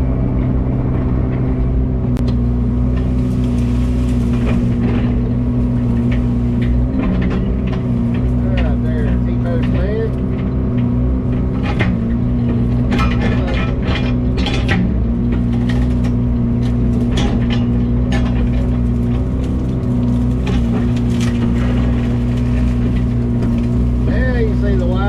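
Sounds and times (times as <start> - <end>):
diesel engine running under load: 0.0 - 25.0
brush cracking and snapping: 2.1 - 25.0.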